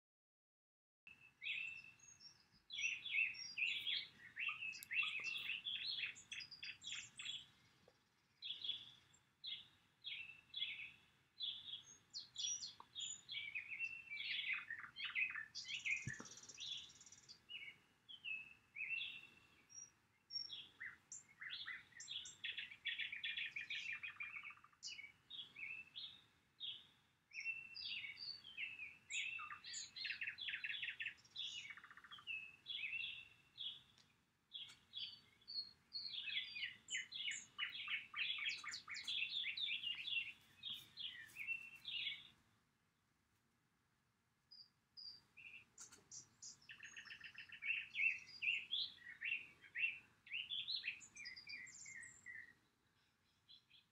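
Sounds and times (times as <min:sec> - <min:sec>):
songbirds chirping and singing: 0:01.1 - 0:42.7, 0:44.5 - 0:53.9.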